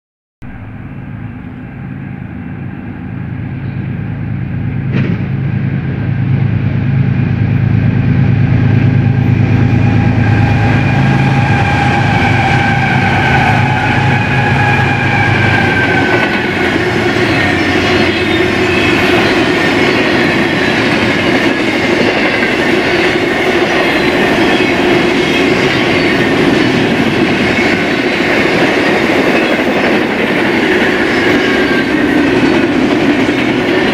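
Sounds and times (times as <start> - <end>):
diesel locomotive engines: 0.4 - 33.9.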